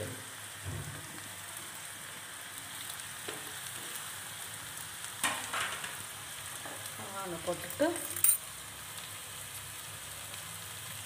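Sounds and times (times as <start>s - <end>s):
loud burst of sizzling: 0.0s - 11.0s
oil sizzling in a frying pan: 0.0s - 11.0s.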